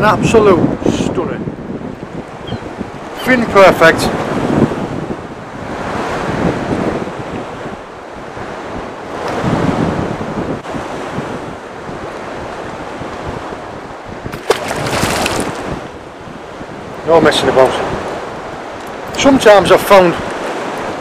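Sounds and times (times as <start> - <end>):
sea washing around boat: 0.0 - 21.0
wind buffeting microphone: 0.0 - 21.0.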